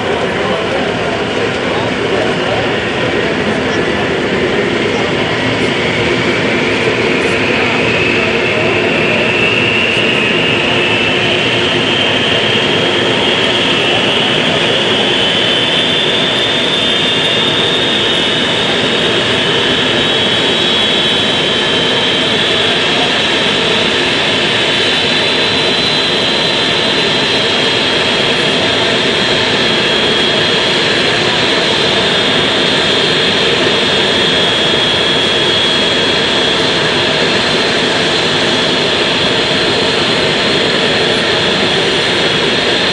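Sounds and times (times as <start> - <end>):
jet engine roaring with whine: 0.0 - 42.9.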